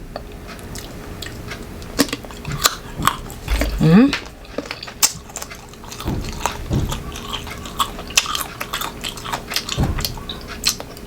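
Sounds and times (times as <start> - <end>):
chewing crunchy mango: 0.2 - 11.0.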